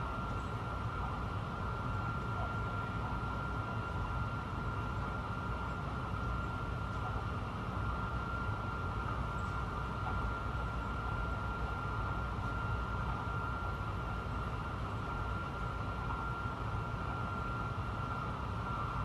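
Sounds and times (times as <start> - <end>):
metro train rumbling with high whine: 0.0 - 19.0.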